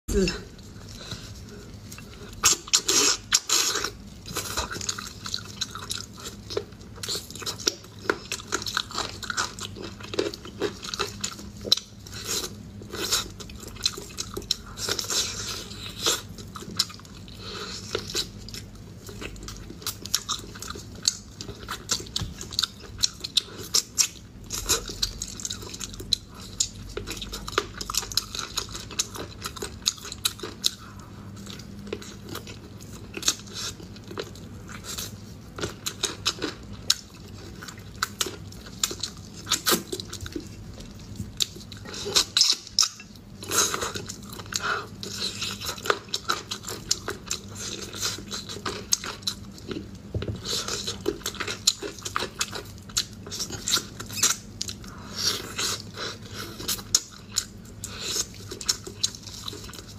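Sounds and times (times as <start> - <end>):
person chewing meat off bones: 0.2 - 59.9.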